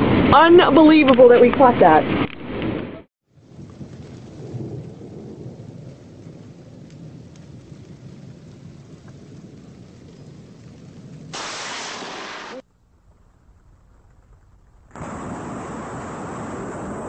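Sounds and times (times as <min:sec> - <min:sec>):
low rumble of thunder: 0:03.3 - 0:17.0
rain hissing: 0:03.3 - 0:17.0.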